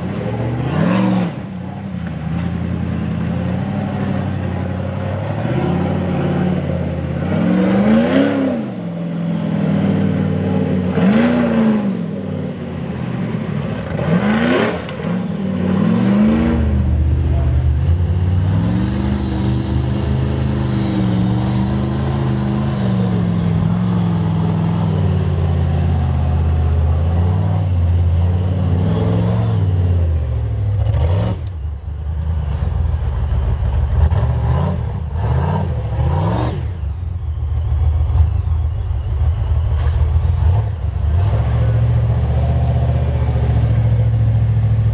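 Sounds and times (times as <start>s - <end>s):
engine revving: 0.0s - 44.9s.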